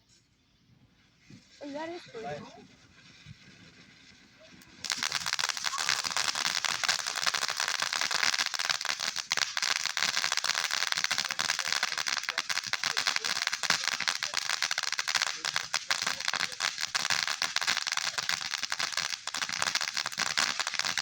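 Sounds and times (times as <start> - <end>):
firework fountain crackling hiss: 1.0 - 21.0.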